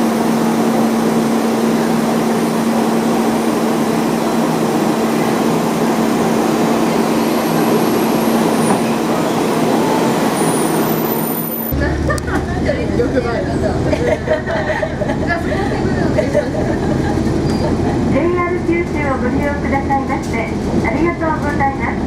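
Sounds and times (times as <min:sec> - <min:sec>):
diesel railcar engine humming: 0:00.0 - 0:22.0
train rumble: 0:00.0 - 0:22.0.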